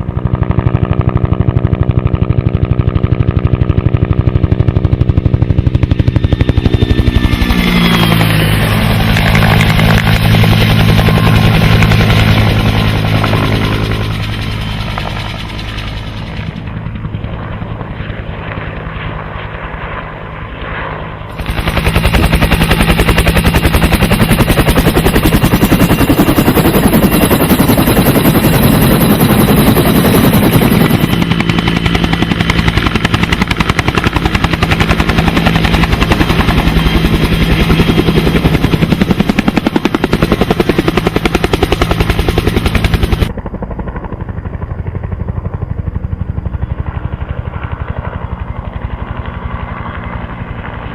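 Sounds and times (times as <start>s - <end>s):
helicopter engine drone: 0.0s - 50.9s
helicopter rotor beating: 0.0s - 50.9s.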